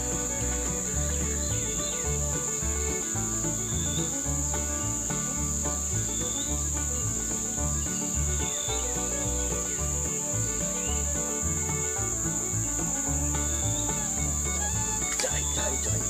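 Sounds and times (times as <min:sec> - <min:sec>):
background music with bass line: 0:00.0 - 0:16.0
insect drone: 0:00.1 - 0:16.0.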